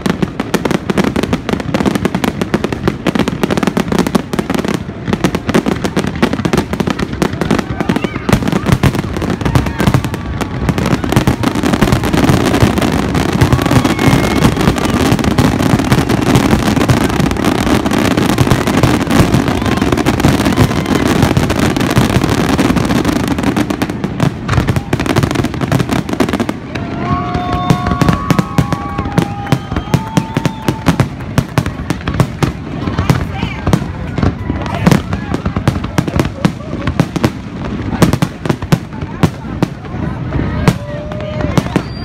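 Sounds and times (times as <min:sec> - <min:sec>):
fireworks bursts and crackle: 0:00.0 - 0:42.0.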